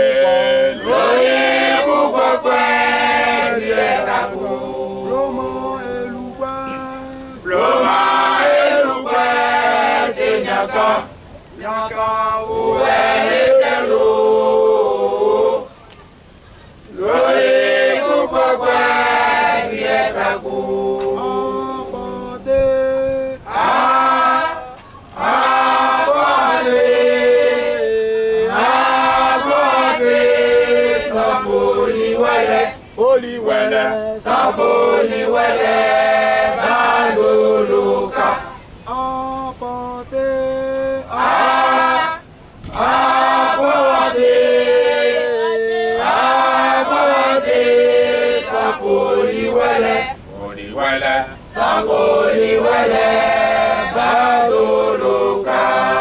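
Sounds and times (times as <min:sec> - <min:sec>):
congregation singing a hymn: 0:00.0 - 0:15.7, 0:16.8 - 0:56.0.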